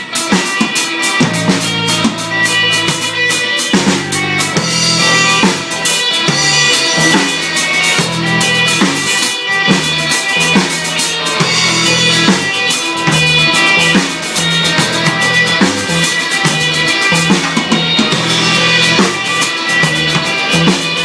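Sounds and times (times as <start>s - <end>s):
drum kit with cymbals: 0.0s - 21.0s
electric guitar: 0.0s - 21.0s.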